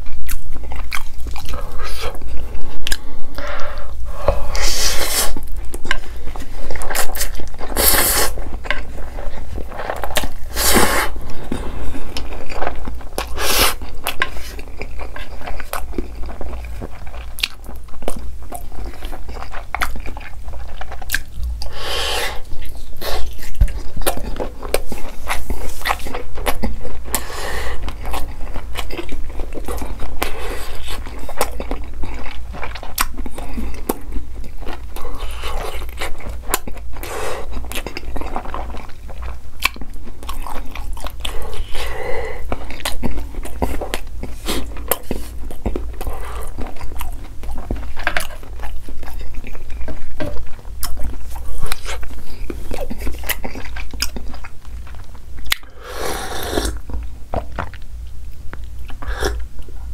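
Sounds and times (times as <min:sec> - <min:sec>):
chewing: 0:00.0 - 0:59.9.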